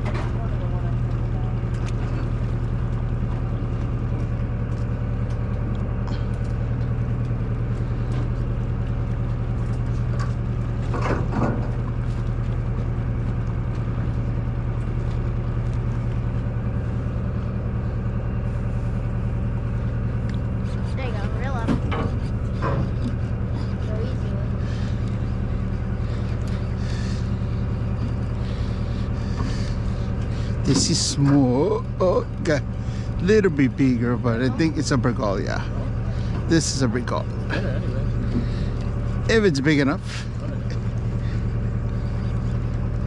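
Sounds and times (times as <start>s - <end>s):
boat engine humming: 0.0s - 43.0s.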